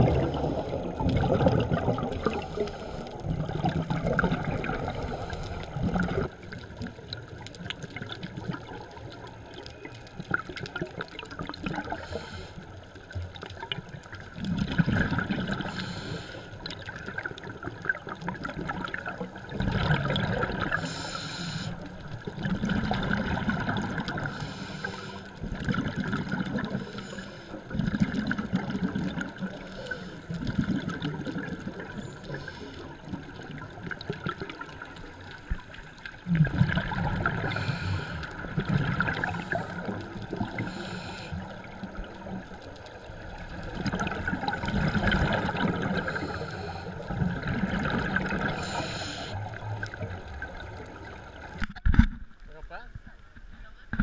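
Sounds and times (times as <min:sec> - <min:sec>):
underwater exhale bubbling: 0:00.0 - 0:09.3, 0:10.2 - 0:51.7.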